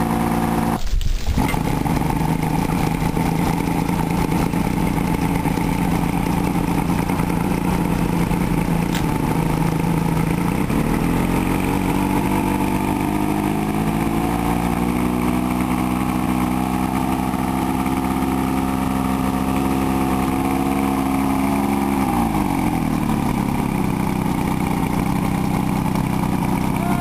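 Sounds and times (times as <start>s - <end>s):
outboard engine running: 0.0s - 27.0s.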